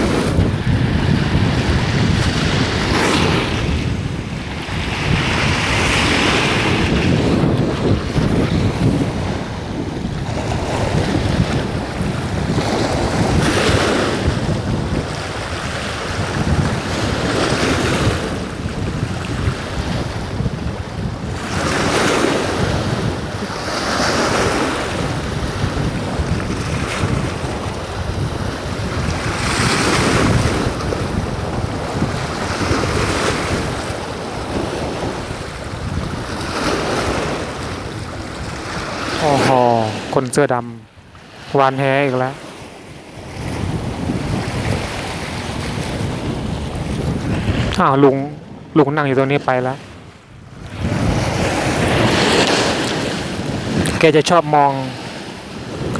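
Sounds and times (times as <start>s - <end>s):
sea waves washing in: 0.0s - 55.9s
wind rumbling on microphone: 0.0s - 55.9s.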